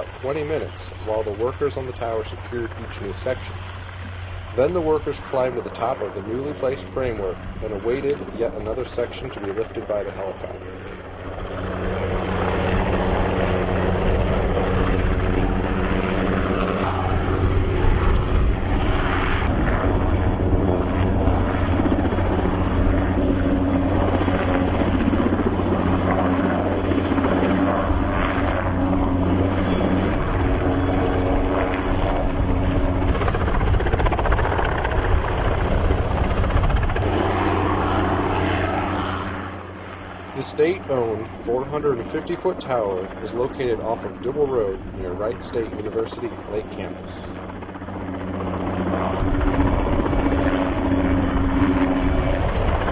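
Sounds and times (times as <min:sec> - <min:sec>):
helicopter rotor and engine: 0:00.0 - 0:52.9.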